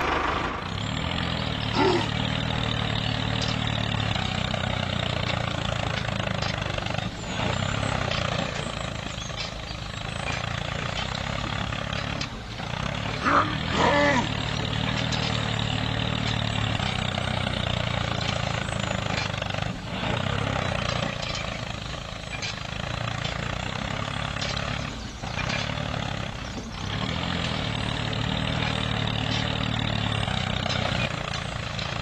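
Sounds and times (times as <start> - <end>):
small tractor motor running: 0.0 - 32.0.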